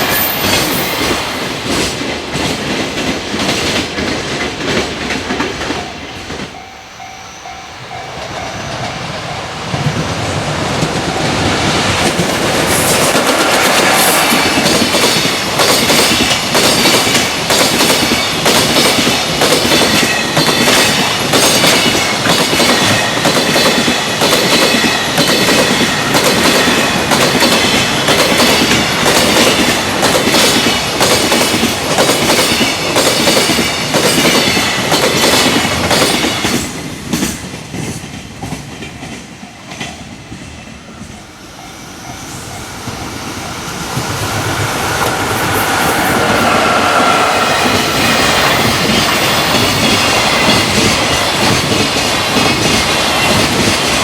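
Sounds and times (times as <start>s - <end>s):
freight train wheels clattering: 7.8s - 41.3s, 42.0s - 54.0s.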